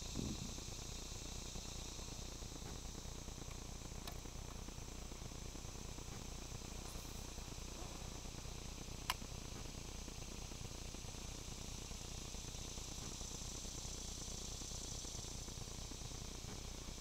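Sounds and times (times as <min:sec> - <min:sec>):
insects chirring: 0:00.0 - 0:17.0
low steady rumble: 0:00.0 - 0:17.0.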